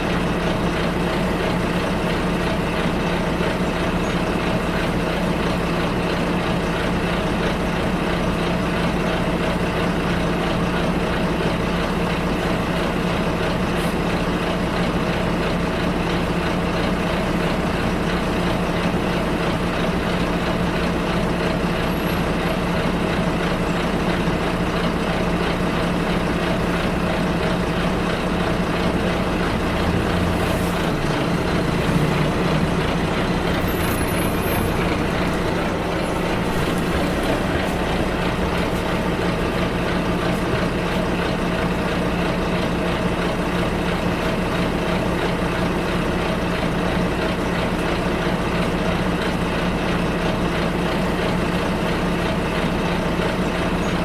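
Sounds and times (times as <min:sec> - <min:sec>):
bus engine humming: 0:00.0 - 0:54.0
road noise: 0:00.0 - 0:54.0.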